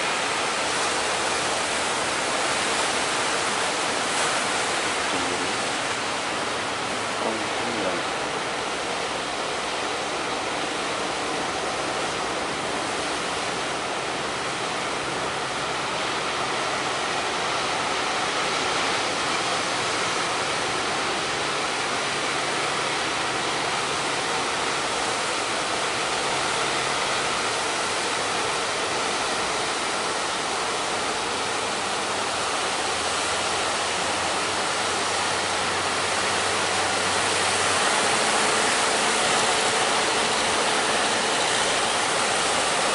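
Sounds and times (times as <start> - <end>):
heavy surf on shore: 0.0 - 42.9.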